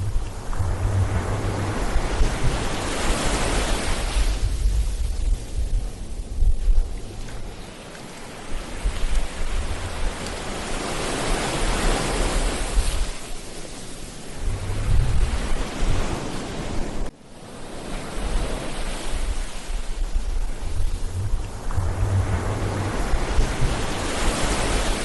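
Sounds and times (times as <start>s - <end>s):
ocean waves breaking: 0.0s - 25.0s
wind rumbling on microphone: 0.0s - 25.0s.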